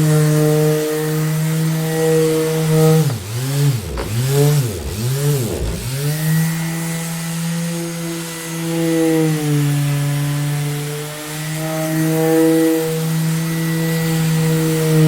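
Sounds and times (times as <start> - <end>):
electric orbital sander running: 0.0 - 15.0.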